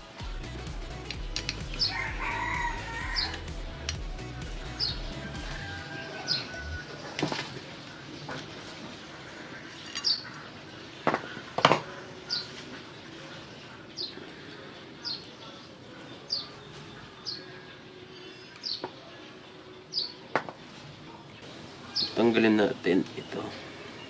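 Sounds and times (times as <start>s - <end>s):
bird chirping: 0.9s - 8.5s, 9.3s - 24.0s.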